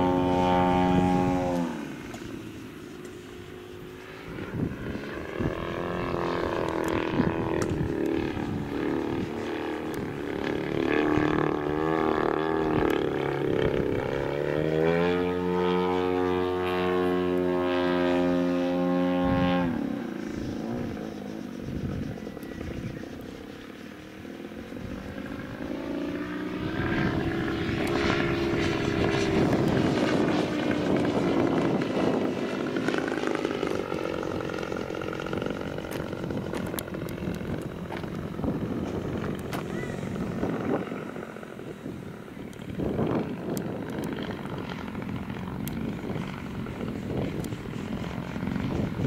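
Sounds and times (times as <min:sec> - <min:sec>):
model airplane motor and propeller: 0:00.0 - 0:49.0.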